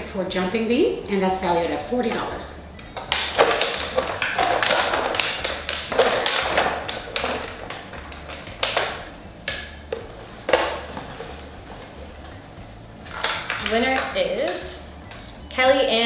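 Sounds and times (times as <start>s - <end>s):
paper tickets rustling in barrel: 1.3s - 15.4s
clicks and rattles: 2.0s - 15.4s.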